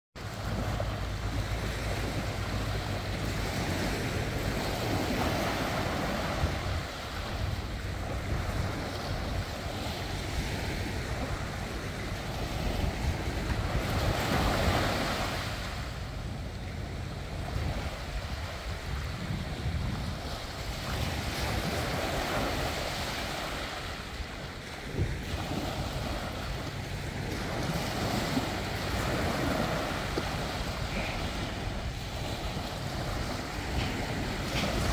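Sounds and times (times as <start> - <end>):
small waves breaking on beach: 0.2 - 34.9
wind rumbling on microphone: 0.2 - 34.9.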